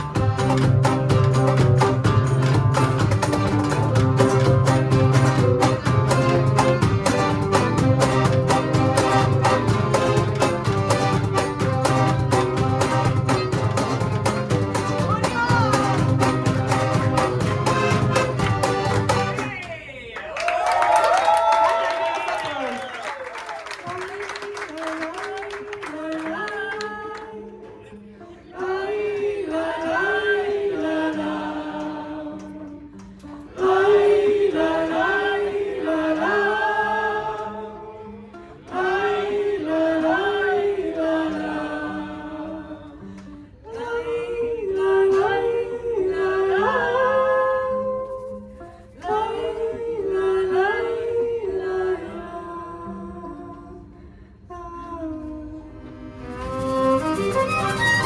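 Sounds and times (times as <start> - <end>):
quiet steady accompaniment: 0.0 - 19.9, 26.5 - 58.0.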